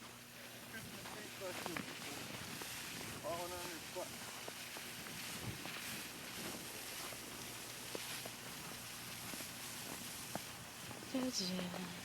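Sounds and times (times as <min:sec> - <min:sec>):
wind hiss on microphone: 0:00.0 - 0:12.0.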